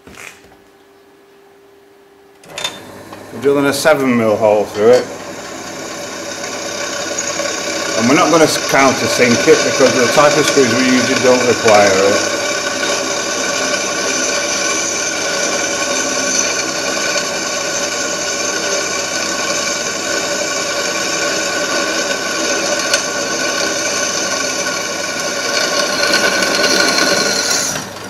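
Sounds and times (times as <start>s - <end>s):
electric drill boring through steel: 2.5s - 28.0s.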